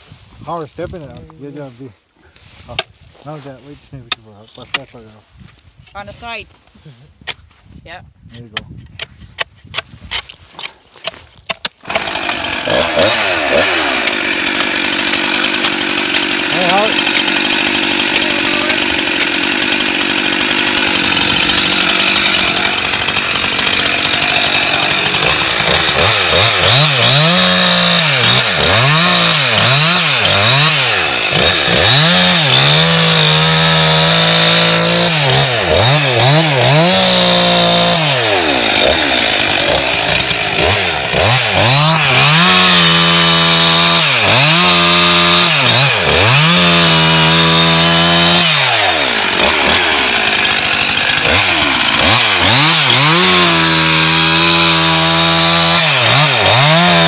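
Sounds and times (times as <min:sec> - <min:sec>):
chainsaw cutting ice: 0:10.2 - 0:57.0.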